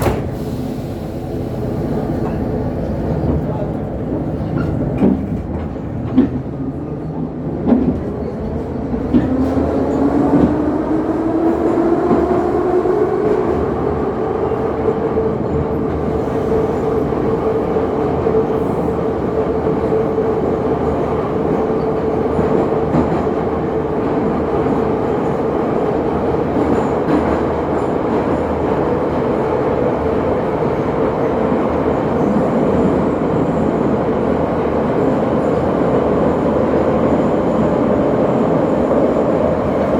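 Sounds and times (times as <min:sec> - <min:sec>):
train running on rails: 0:00.0 - 0:39.9.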